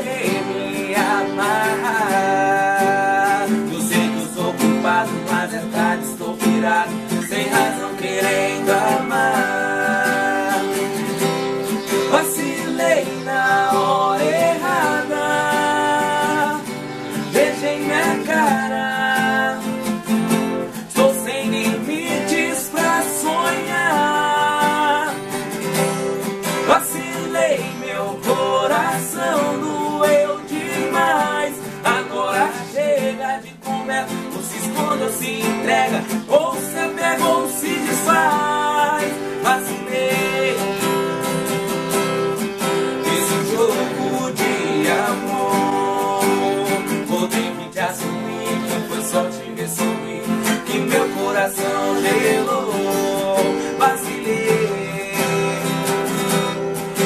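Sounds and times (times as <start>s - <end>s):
acoustic guitars strummed: 0.0s - 57.0s
man singing: 0.0s - 57.0s.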